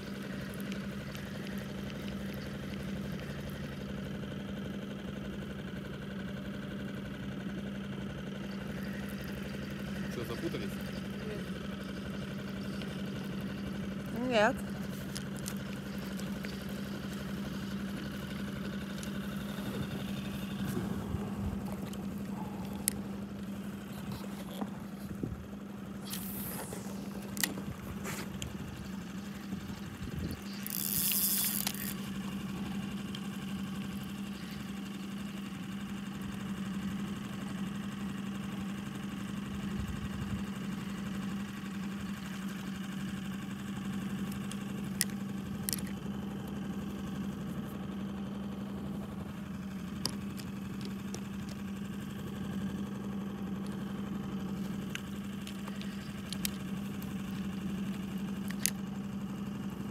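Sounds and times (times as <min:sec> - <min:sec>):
boat motor humming: 0:00.0 - 0:59.9.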